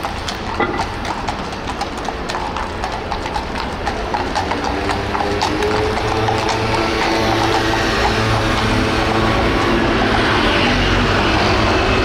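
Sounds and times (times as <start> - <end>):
clip-clopping steps on hard street: 0.0 - 12.0
low street rumble: 0.0 - 12.0.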